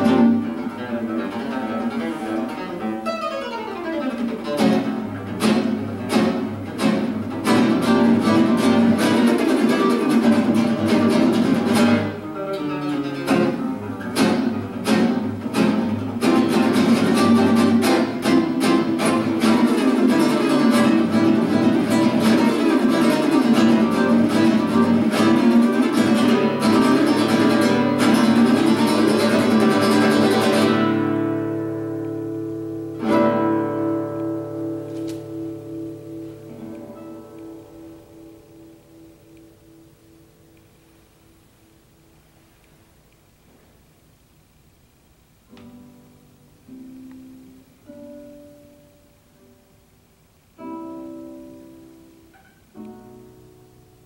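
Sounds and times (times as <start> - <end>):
solo classical guitar: 0.0 - 54.0.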